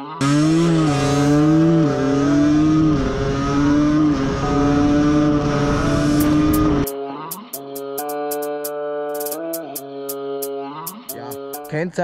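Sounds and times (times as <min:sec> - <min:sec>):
moped two-stroke engine running: 0:00.2 - 0:09.9, 0:10.9 - 0:11.8.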